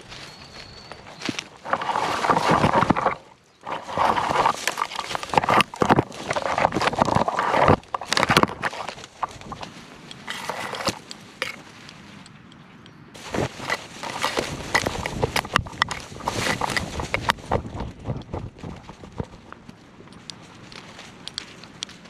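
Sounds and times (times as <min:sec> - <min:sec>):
brush crackling and rustling: 0:00.0 - 0:22.0.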